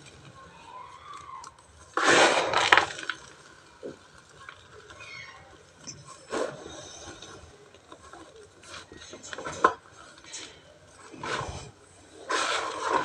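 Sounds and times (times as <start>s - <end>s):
dry chunks crunching: 0.0s - 13.0s.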